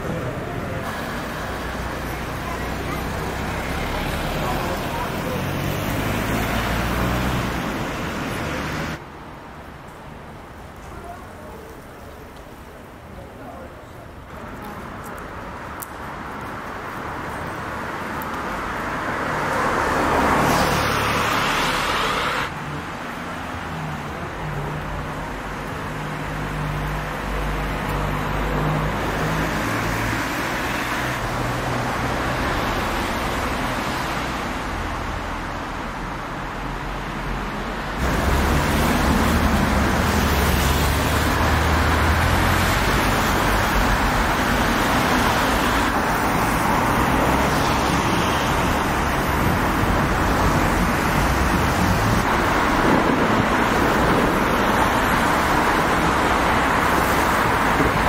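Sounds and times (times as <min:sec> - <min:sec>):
cars driving on a wet road: 0:00.0 - 0:58.0.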